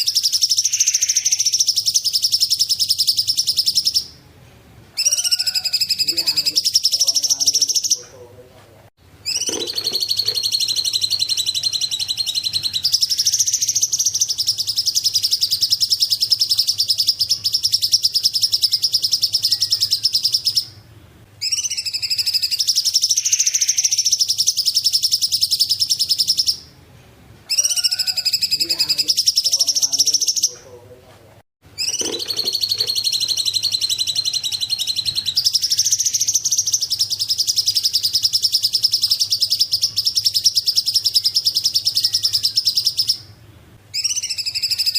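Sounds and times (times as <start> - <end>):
bird singing high trills: 0.0 - 4.2, 5.0 - 8.0, 9.2 - 20.8, 21.4 - 26.7, 27.5 - 30.6, 31.8 - 44.9.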